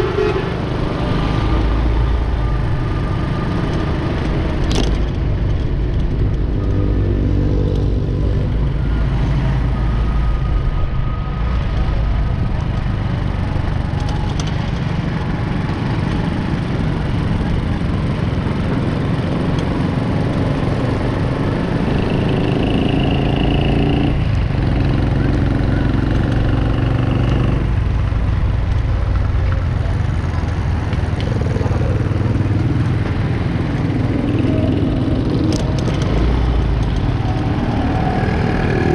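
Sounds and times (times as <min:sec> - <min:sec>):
motorcycle and car engines passing: 0:00.0 - 0:38.9.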